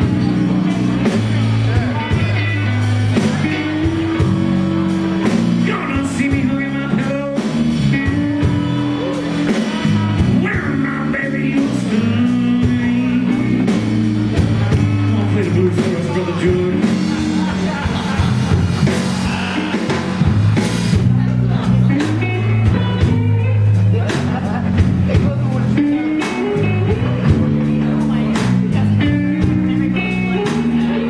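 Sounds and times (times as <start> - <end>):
bass line: 0.0 - 31.0
drum kit: 0.0 - 31.0
electric guitars: 0.0 - 31.0.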